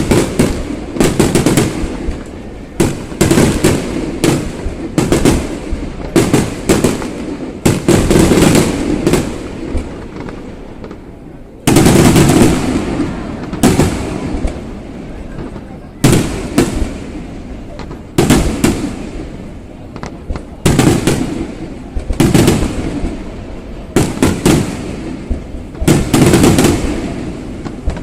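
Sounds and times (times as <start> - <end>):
fireworks bursting with echo: 0.0 - 28.0.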